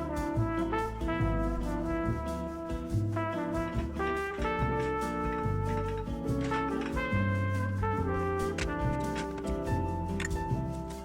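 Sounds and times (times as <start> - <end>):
background music with drums: 0.0 - 11.0.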